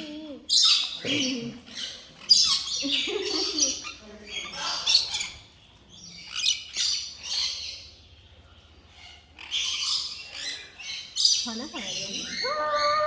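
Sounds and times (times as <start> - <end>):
parrots chirping and squawking: 0.0 - 13.0.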